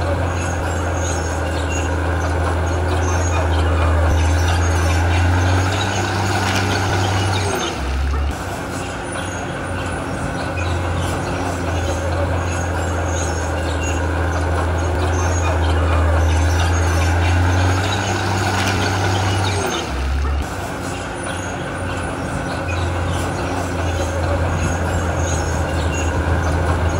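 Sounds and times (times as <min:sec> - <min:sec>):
diesel machinery engine drone: 0:00.0 - 0:26.9.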